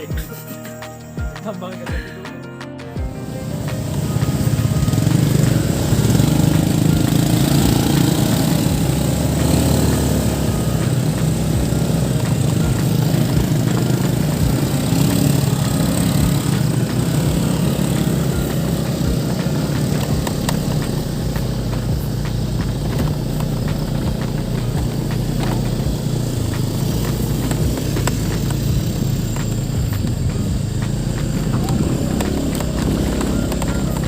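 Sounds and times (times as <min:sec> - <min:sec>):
small petrol engine running: 0:03.0 - 0:34.0.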